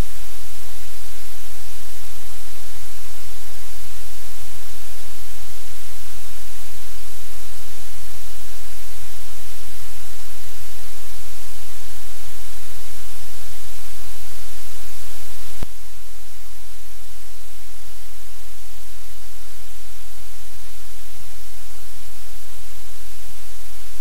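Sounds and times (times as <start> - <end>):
static hiss: 0.0 - 24.0.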